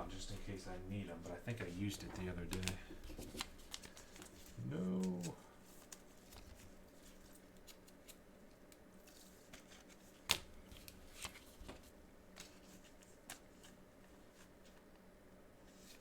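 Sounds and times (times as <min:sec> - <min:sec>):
cards and plastic sleeves rustling: 0:00.1 - 0:14.9.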